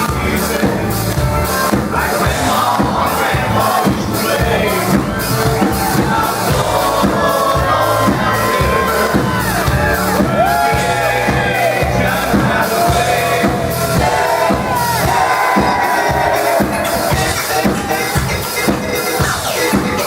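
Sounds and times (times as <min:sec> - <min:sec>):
crowd shouting: 0:00.0 - 0:20.0
live country-rap band music: 0:00.0 - 0:20.0.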